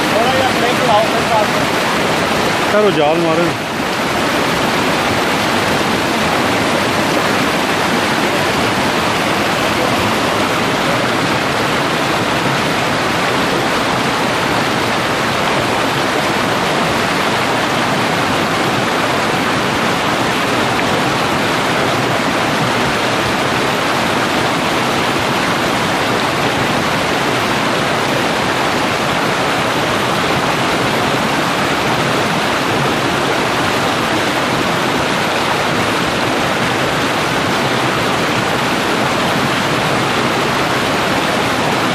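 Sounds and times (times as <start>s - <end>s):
stream rushing: 0.0s - 41.9s.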